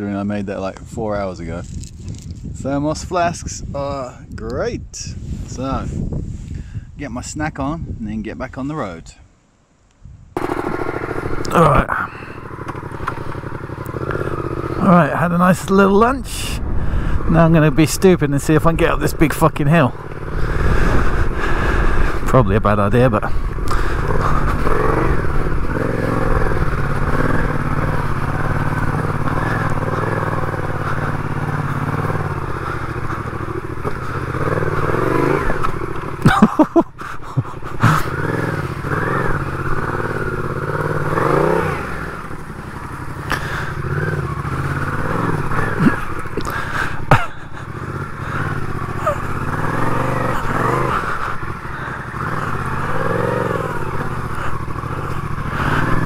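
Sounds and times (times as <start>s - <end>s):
motorcycle engine revving: 10.4s - 56.0s.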